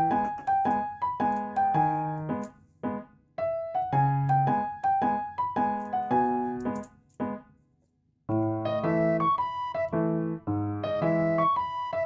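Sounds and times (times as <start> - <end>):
gentle piano music: 0.0 - 7.4, 8.3 - 12.0.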